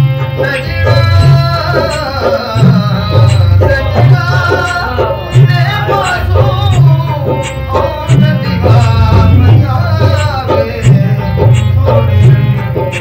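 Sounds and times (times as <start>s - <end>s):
pitch-sliding melody: 0.0s - 13.0s
drum beat: 0.9s - 13.0s.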